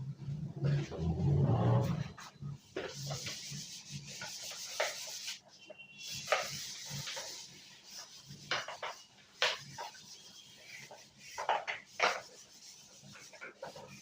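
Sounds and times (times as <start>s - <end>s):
rubbing and rustling: 0.2s - 14.0s.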